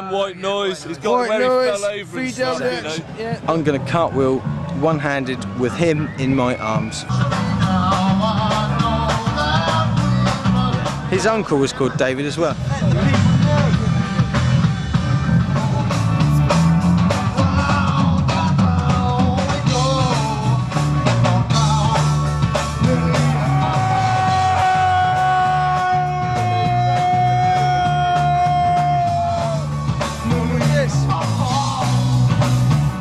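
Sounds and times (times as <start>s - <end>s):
rock music with singing: 4.2s - 11.3s, 12.5s - 33.0s.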